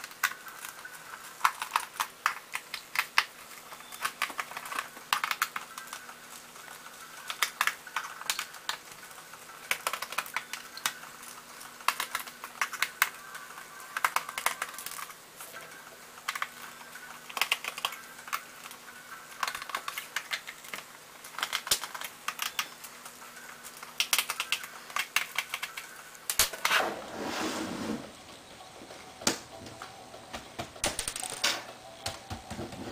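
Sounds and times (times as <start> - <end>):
rapid small clicks: 0.0 - 26.7
faint steady hum: 0.0 - 32.9.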